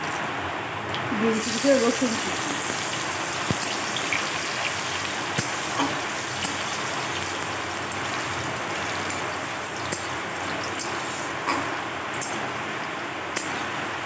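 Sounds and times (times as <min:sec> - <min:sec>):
garlic sizzling in hot oil: 0:00.9 - 0:14.0.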